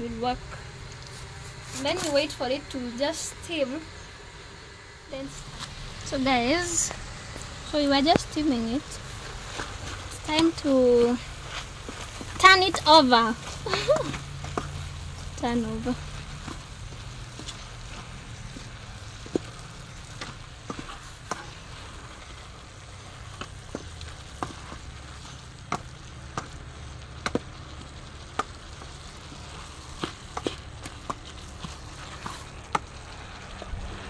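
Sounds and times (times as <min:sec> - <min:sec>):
soft sizzle: 0:00.0 - 0:34.0.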